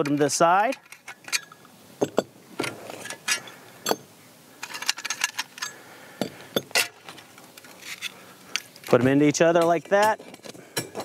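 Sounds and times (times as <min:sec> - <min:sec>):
metal grill parts clinking: 0:00.0 - 0:11.0.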